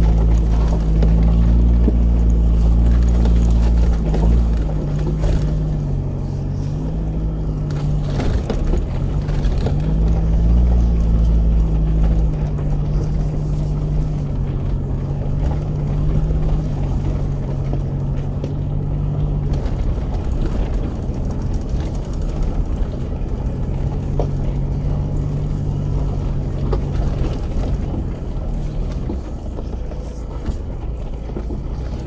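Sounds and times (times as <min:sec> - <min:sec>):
low road rumble: 0:00.0 - 0:32.0
vehicle engine droning: 0:00.0 - 0:32.0.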